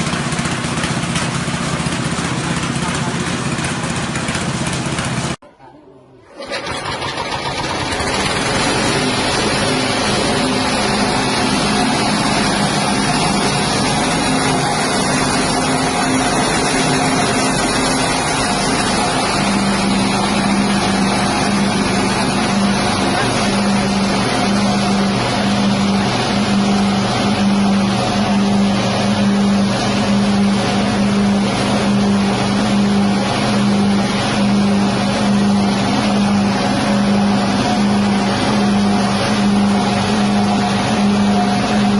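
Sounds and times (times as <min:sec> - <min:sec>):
engine hum: 0:00.0 - 0:05.4, 0:06.3 - 0:41.9
grinding mill rushing noise: 0:00.0 - 0:05.4, 0:06.3 - 0:41.9.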